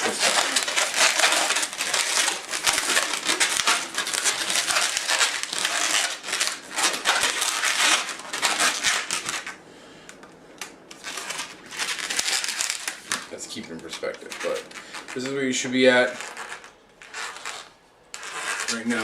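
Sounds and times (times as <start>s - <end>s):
balloon rubber rubbing and crinkling: 0.0s - 9.6s, 10.9s - 19.0s.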